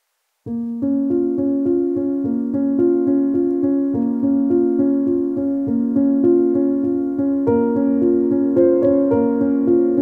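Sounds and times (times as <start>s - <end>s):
electric piano repeated notes: 0.5s - 10.0s.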